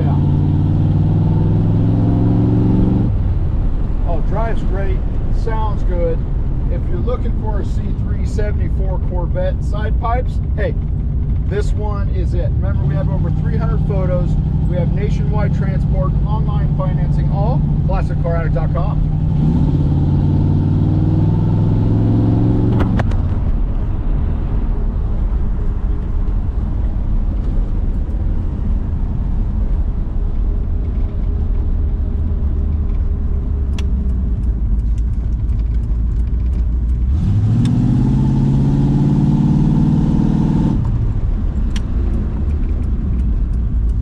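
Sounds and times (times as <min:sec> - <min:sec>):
car engine exhaust rumble: 0:00.0 - 0:44.0.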